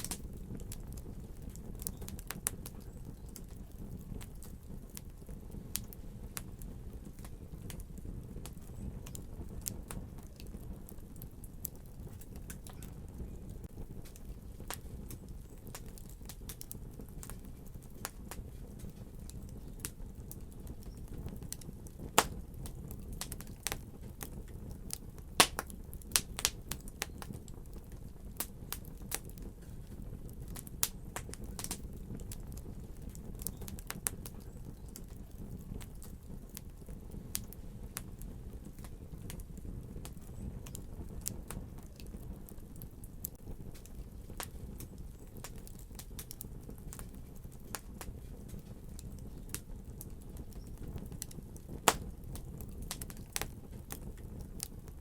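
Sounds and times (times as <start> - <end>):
fire crackling: 0.0 - 55.0.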